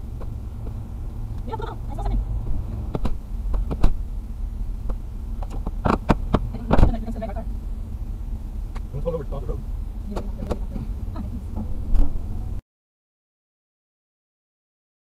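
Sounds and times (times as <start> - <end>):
car cabin low rumble: 0.0 - 12.6.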